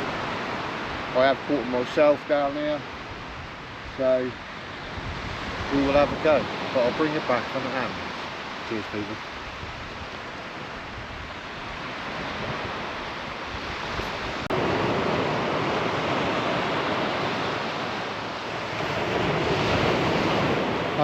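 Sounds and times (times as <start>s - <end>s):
waves washing on beach: 0.0s - 21.0s
wind on microphone: 2.4s - 21.0s.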